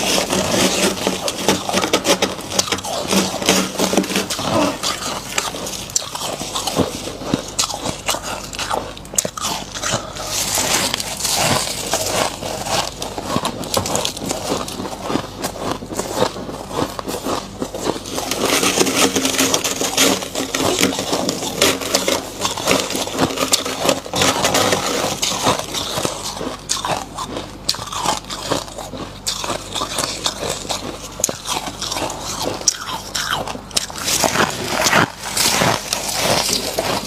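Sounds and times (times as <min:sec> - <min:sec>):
frost crunching and scraping: 0:00.0 - 0:37.0.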